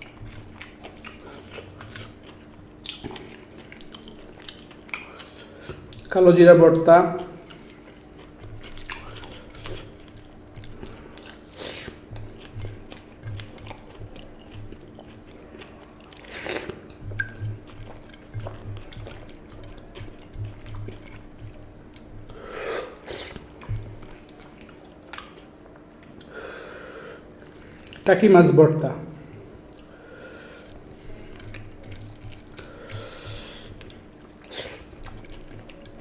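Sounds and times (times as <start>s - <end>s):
chewing: 0.0s - 6.1s, 7.2s - 26.3s, 29.4s - 36.0s
faint steady hum: 0.0s - 36.0s.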